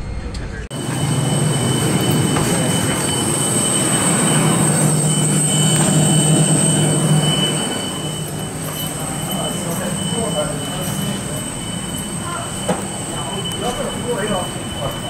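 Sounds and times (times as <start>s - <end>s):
ground machinery hum and rumble: 0.0s - 15.0s
high-pitched whine: 0.0s - 15.0s.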